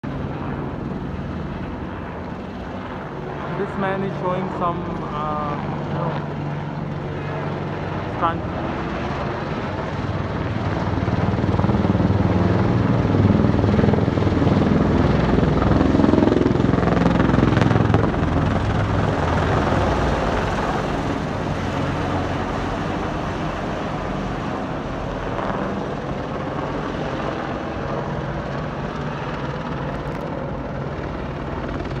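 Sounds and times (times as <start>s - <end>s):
aircraft engine: 0.0s - 32.0s.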